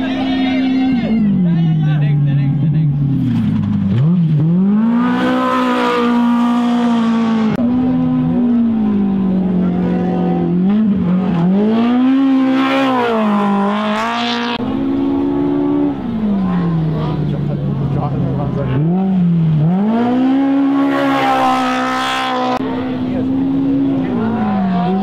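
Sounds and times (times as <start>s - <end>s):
engines revving hard: 1.3s - 25.0s.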